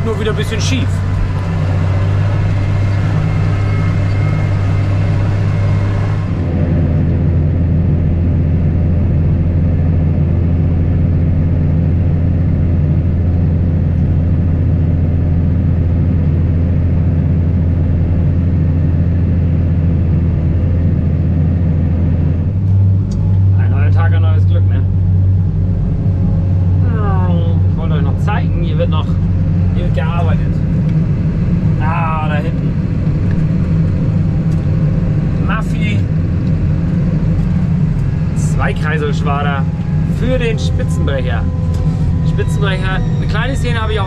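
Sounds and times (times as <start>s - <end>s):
vehicle engine droning: 0.0s - 44.0s.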